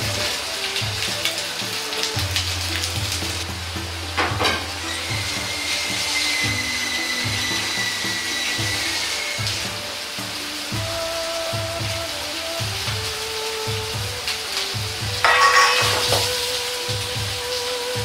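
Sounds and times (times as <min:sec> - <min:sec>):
background music: 0:00.0 - 0:18.0
oil sizzling in a wok: 0:00.0 - 0:18.0.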